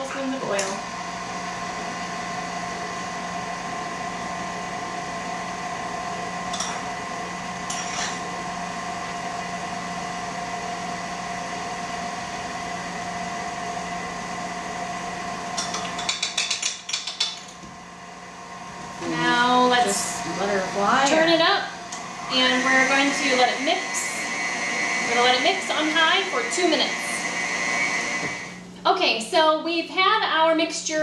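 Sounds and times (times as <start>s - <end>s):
stand mixer motor humming: 0.0s - 16.3s, 17.7s - 28.8s.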